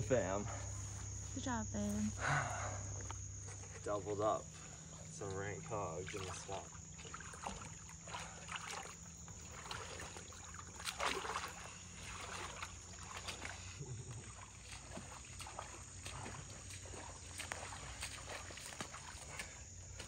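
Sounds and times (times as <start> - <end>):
water sloshing and splashing: 2.4 - 20.0.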